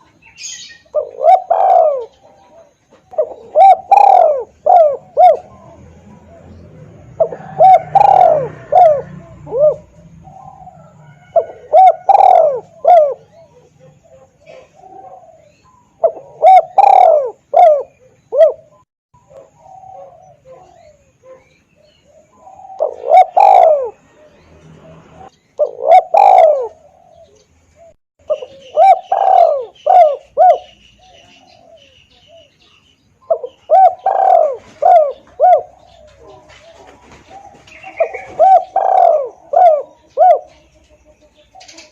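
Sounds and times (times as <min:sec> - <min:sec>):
dove cooing: 0:00.0 - 0:32.6, 0:33.2 - 0:41.9.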